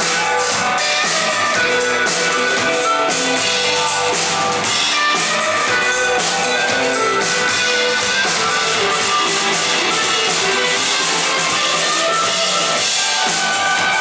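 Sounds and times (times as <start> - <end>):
bass guitar: 0.0 - 14.0
drum kit beat: 0.0 - 14.0
electric guitars: 0.0 - 14.0.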